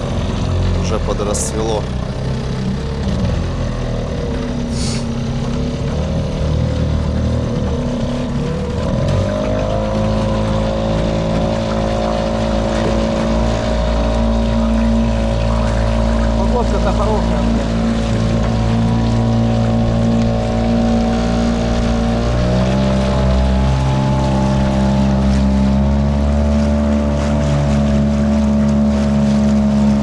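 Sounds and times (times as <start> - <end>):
motor engine running: 0.0 - 30.0.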